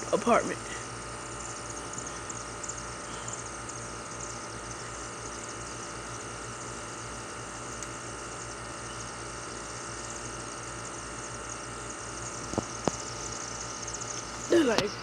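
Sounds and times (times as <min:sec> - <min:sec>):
flock of birds twittering: 0:00.0 - 0:07.2, 0:10.0 - 0:15.0
steady low hum: 0:00.0 - 0:15.0.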